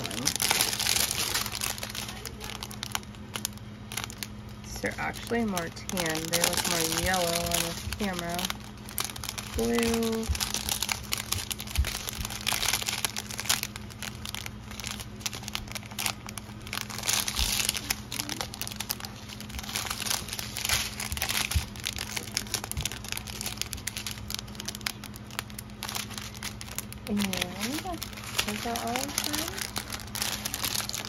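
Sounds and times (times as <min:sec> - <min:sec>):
plastic bags crinkling: 0:00.0 - 0:31.0.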